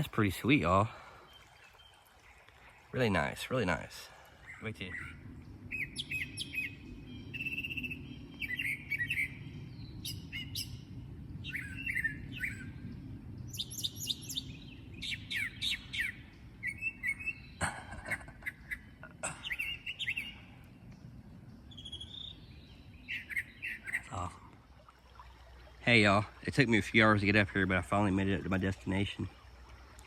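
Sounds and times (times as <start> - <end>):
creek water flowing: 0.0 - 30.0
songbirds chirping: 0.0 - 30.0.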